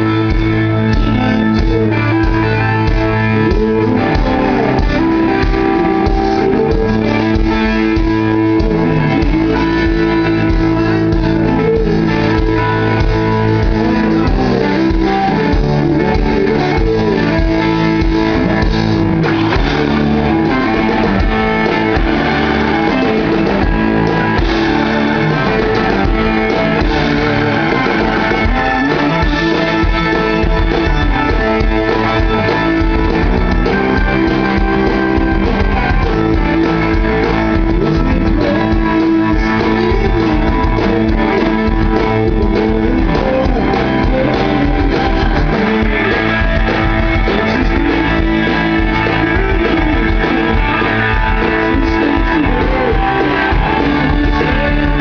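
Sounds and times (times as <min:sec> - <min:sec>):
blues-rock band playing: 0:00.0 - 0:55.0
electric guitar bent notes: 0:00.0 - 0:55.0.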